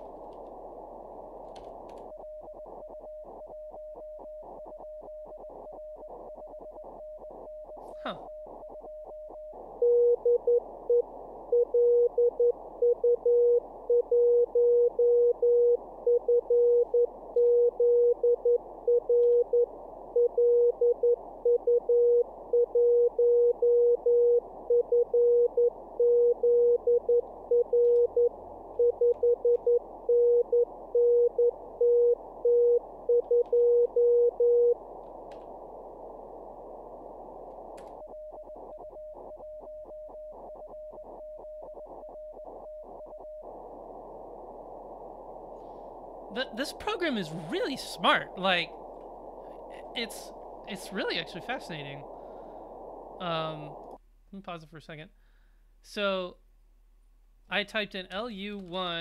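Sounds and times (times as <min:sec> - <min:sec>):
radio static hiss: 0:00.0 - 0:55.2.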